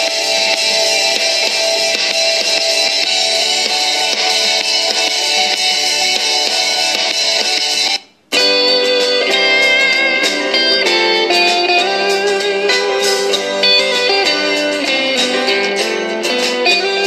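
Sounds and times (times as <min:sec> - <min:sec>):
slide guitar music on portable speaker: 0:00.0 - 0:17.0.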